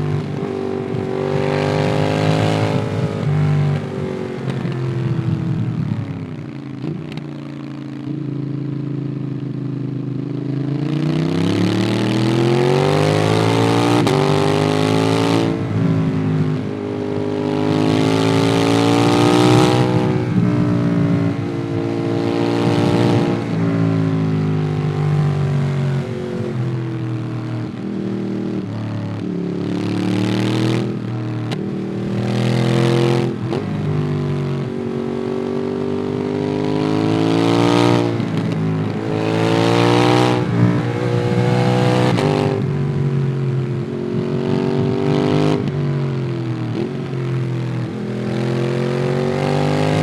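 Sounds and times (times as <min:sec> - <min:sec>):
rush of wind: 0:00.0 - 0:07.2, 0:09.8 - 0:50.0
motorcycle engine accelerating: 0:00.0 - 0:50.0.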